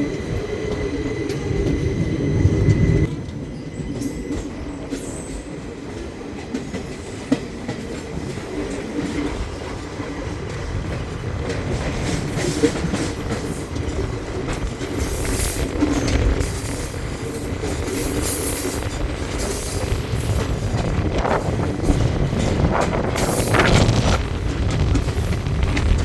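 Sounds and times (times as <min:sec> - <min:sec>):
train wheels clattering on rail: 0:00.0 - 0:26.0.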